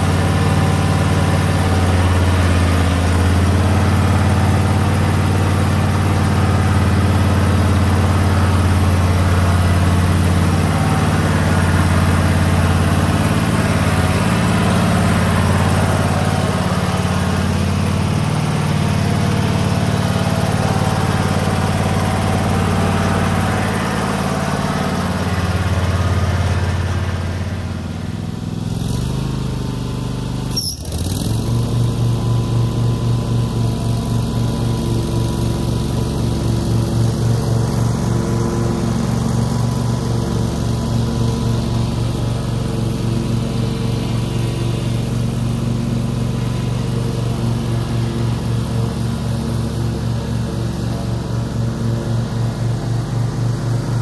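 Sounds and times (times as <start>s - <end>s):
riding mower engine running: 0.0s - 54.0s.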